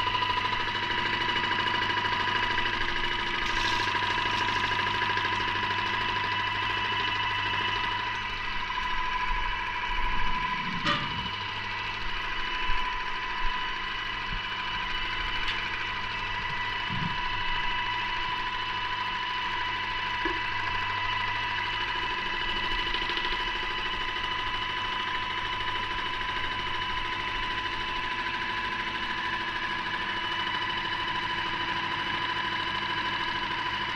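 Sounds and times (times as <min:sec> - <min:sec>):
paint sprayer motor whining: 0:00.0 - 0:33.9.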